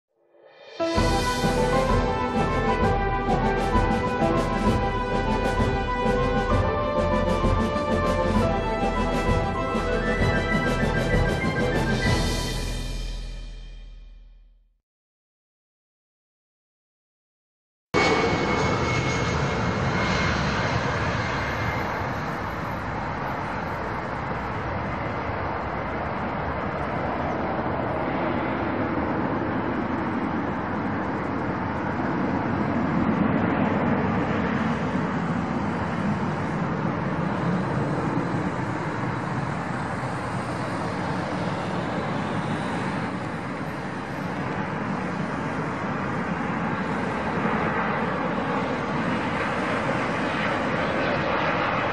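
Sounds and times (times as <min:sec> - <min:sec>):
jet engine rumble and hiss: 0:00.6 - 0:13.0, 0:18.0 - 0:51.9.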